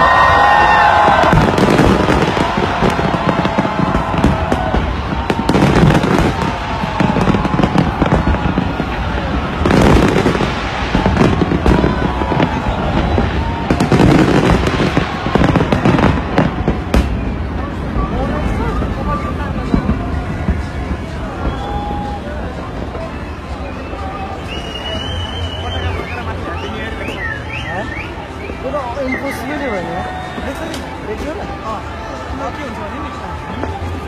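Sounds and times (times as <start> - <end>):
crowd shouting: 0.0 - 34.0
fireworks bangs and crackling: 0.0 - 34.0.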